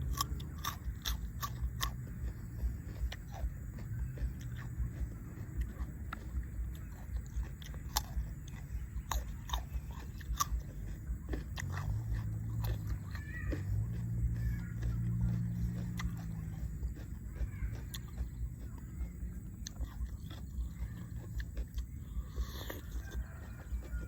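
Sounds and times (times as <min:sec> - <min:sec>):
person chewing food: 0:00.0 - 0:24.0
sharp crunches: 0:00.0 - 0:24.0.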